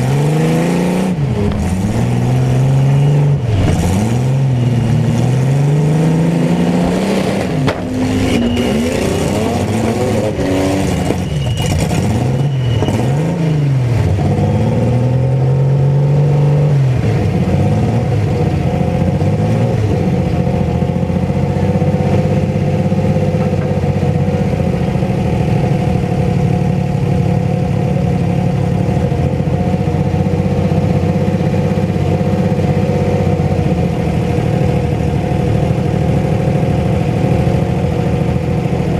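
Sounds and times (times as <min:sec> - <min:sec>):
truck engines revving: 0:00.0 - 0:38.9.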